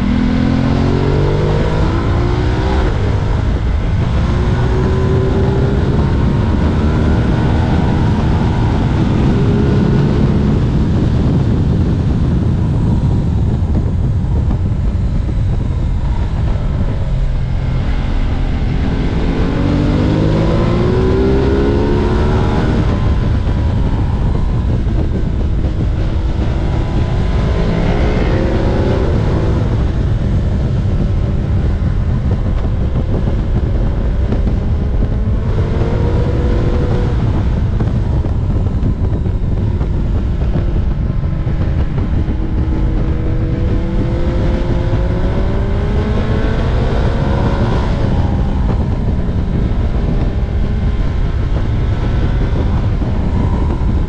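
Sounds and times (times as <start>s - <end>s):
motorcycle engine accelerating: 0.0s - 54.0s
wind rushing on microphone: 0.0s - 54.0s.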